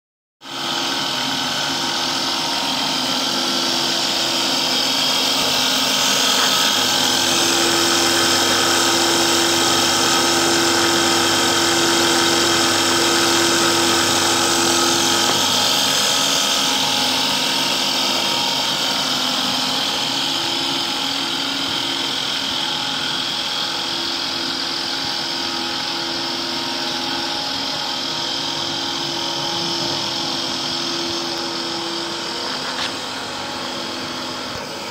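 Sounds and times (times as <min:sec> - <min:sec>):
feed extruder machine humming: 0:00.4 - 0:34.9.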